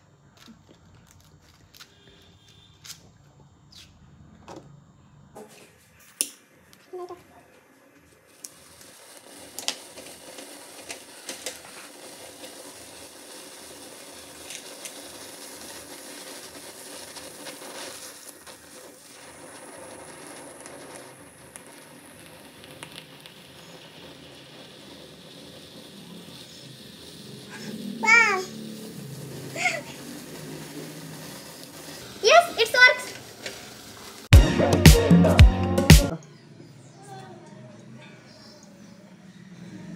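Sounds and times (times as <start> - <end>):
sparkler crackling fizz: 0.3 - 3.1, 5.5 - 36.1.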